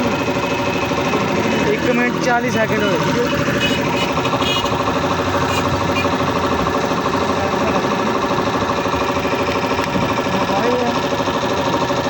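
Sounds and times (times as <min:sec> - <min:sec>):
piston air compressor running: 0:00.0 - 0:12.0.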